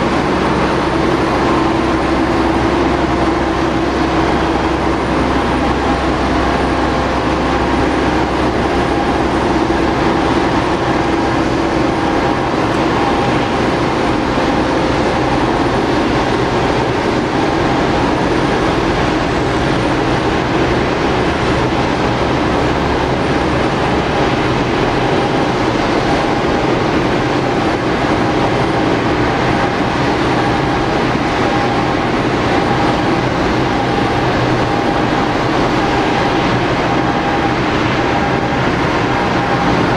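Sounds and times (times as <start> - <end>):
jet engine whine and rumble: 0.0 - 39.9.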